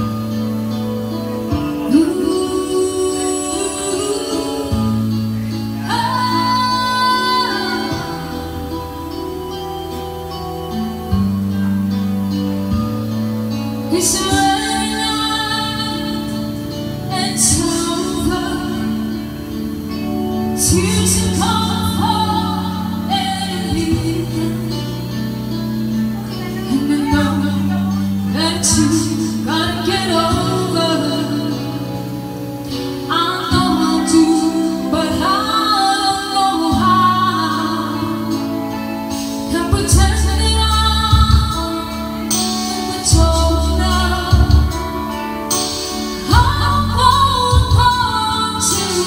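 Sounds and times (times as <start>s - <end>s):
bass line: 0.0s - 35.6s, 36.5s - 49.0s
guitar accompaniment: 0.0s - 49.0s
woman singing into a microphone: 0.0s - 49.0s.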